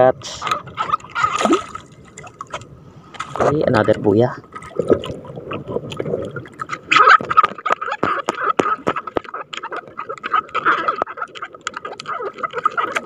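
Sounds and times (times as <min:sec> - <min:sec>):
fishing float and line handling: 0:00.2 - 0:13.0.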